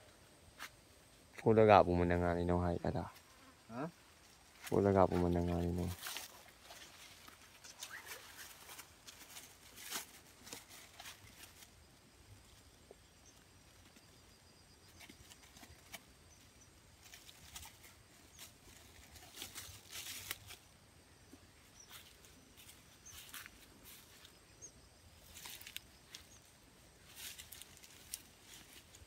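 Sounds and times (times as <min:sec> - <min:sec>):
leaves and twigs rustling: 0:02.0 - 0:29.0.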